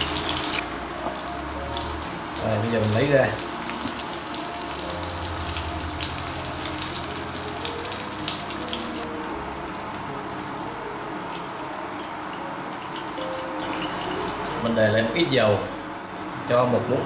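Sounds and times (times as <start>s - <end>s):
tofu sizzling in oil: 0.0s - 15.3s.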